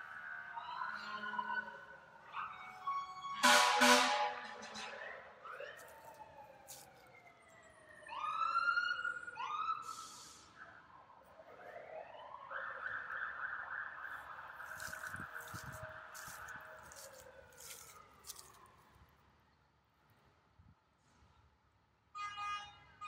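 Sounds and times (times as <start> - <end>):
fire engine sirens: 0.0 - 19.4.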